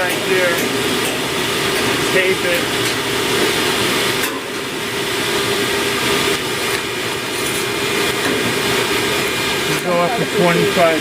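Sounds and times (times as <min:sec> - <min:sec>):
motor humming and whirring: 0:00.0 - 0:11.0.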